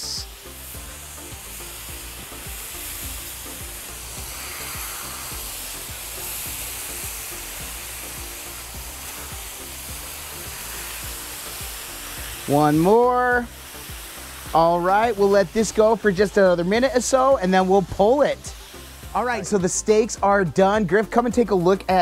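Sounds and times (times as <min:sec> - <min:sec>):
steaks sizzling on a griddle: 0:00.0 - 0:22.0.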